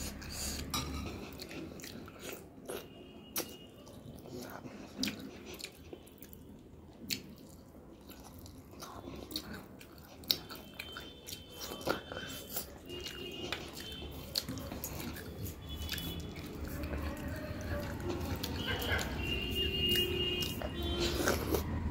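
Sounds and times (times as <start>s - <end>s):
close-up chewing: 0.0s - 21.9s.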